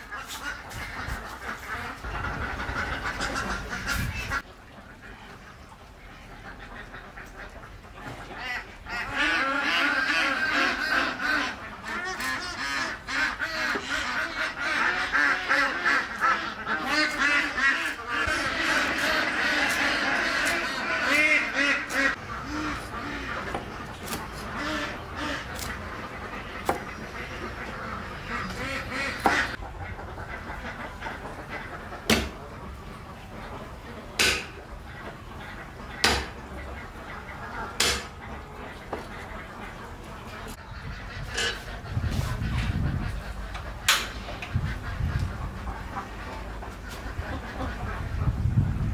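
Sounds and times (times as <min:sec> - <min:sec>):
waterfowl flock calling: 0:00.0 - 0:48.9.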